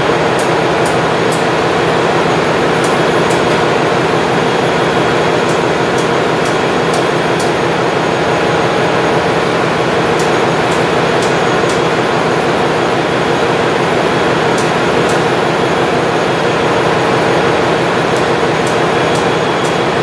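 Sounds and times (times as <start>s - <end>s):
engine-room machinery drone: 0.0s - 20.0s.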